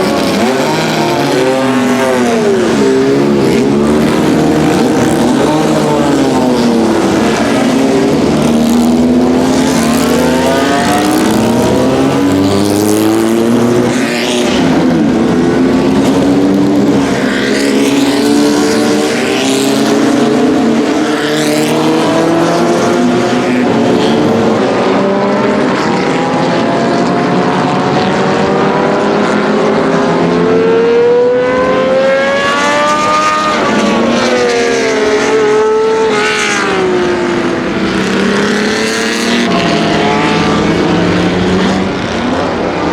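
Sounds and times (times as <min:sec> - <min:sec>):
racing car engines: 0:00.0 - 0:42.9.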